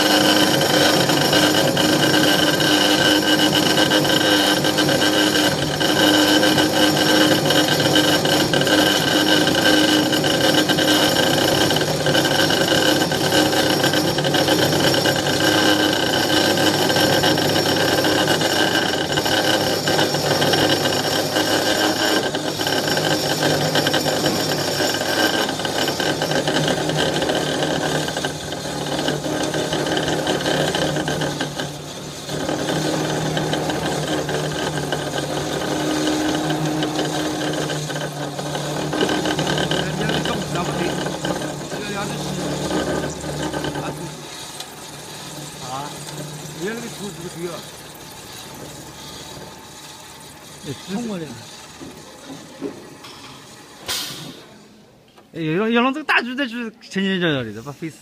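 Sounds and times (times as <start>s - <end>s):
cold saw cutting metal bar: 0.0s - 52.4s, 53.0s - 54.5s.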